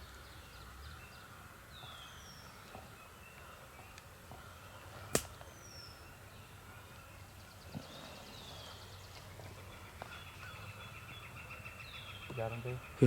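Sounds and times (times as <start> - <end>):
songbirds whistling: 0.0 - 13.0.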